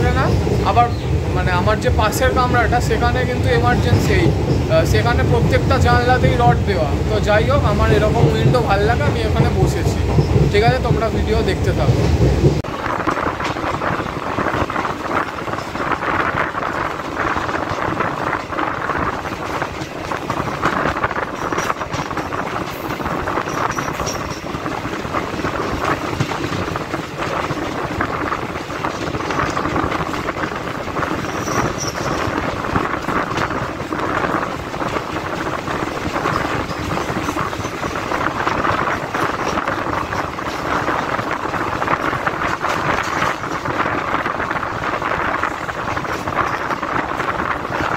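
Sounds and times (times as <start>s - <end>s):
train rumble: 0.0s - 47.9s
wheels clattering on rails: 0.0s - 47.9s.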